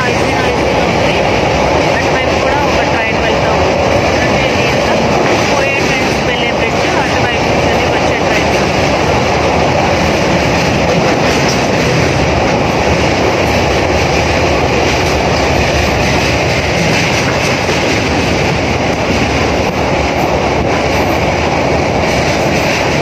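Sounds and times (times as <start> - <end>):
train wheels rumbling on bridge: 0.0 - 23.0.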